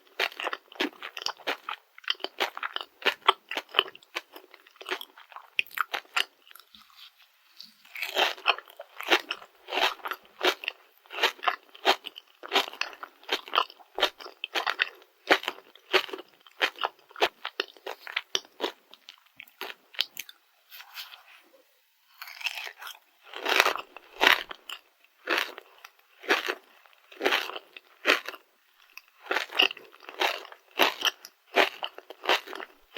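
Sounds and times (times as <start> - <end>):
crunchy chewing: 0.0 - 21.3, 22.1 - 32.9.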